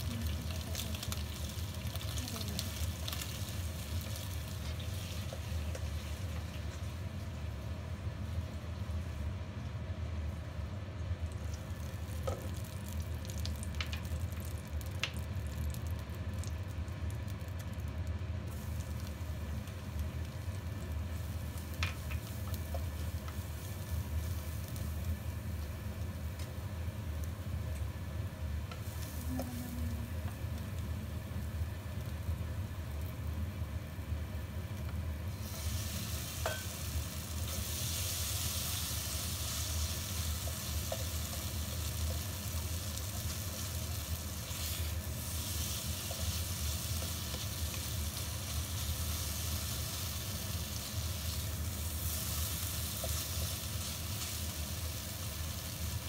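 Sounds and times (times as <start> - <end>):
food sizzling in hot oil: 0.0 - 9.4, 10.3 - 56.0
low steady hum: 0.0 - 56.0.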